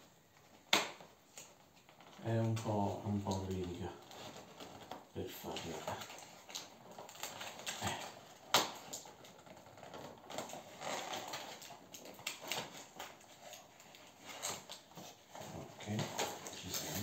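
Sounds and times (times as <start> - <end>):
cardboard box scratching and crackling: 0.8 - 17.0.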